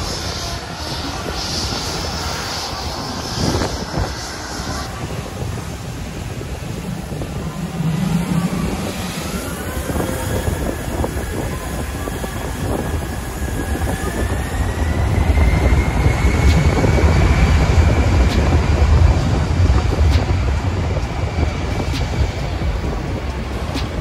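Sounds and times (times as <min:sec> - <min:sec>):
aircraft engines rumbling: 0:00.0 - 0:24.0
rising engine whine: 0:00.0 - 0:24.0.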